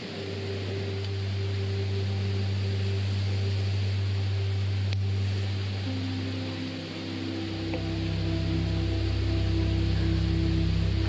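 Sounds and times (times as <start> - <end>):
loud low hum: 0.0 - 11.0.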